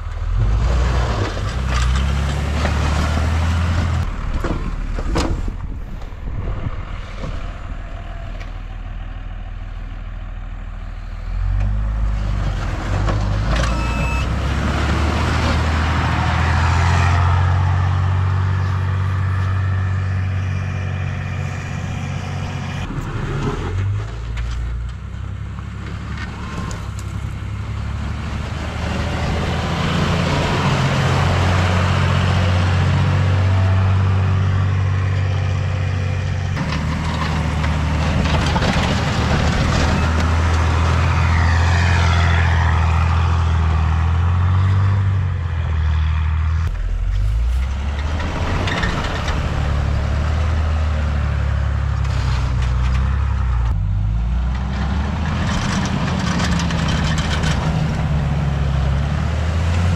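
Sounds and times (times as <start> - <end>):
pickup engine running under load: 0.0 - 59.9
plow blade pushing snow: 0.0 - 59.9.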